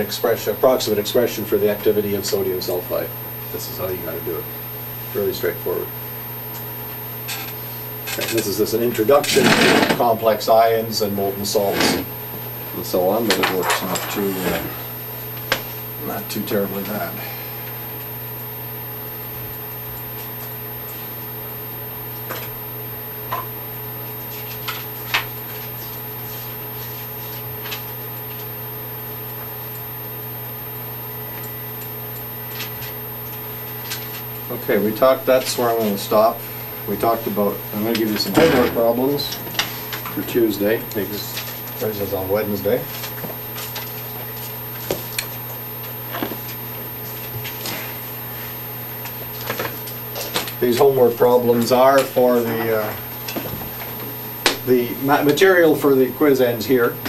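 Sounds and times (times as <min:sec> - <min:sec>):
ventilation hum: 0:00.0 - 0:57.0.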